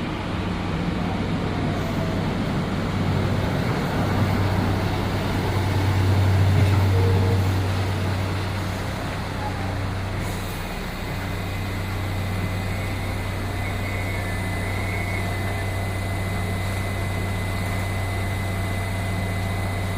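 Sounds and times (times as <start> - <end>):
heavy engine idling: 0.0 - 19.9.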